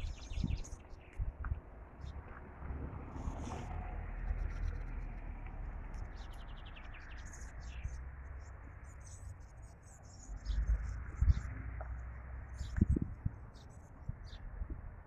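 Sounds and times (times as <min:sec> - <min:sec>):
small birds chirping: 0:00.0 - 0:01.4, 0:02.0 - 0:02.3, 0:03.2 - 0:14.8.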